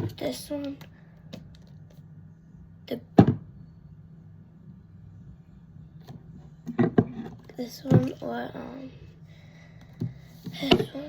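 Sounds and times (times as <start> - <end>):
faint steady low hum: 0.0 - 11.0.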